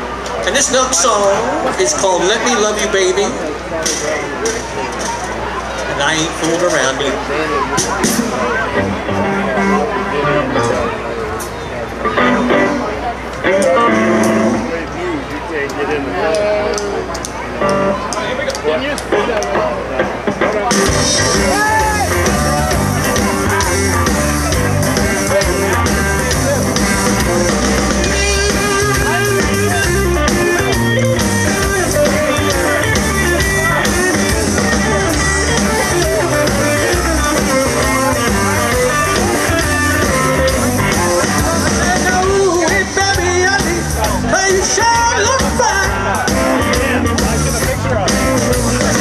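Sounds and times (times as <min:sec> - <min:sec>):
blues band playing: 0:00.0 - 0:49.0.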